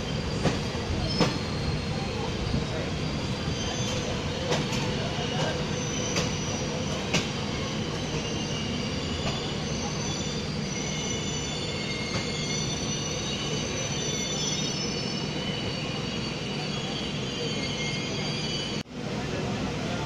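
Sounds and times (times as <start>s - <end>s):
train wheels rumbling on track: 0.0s - 20.0s
wheels squealing on rails: 0.0s - 20.0s.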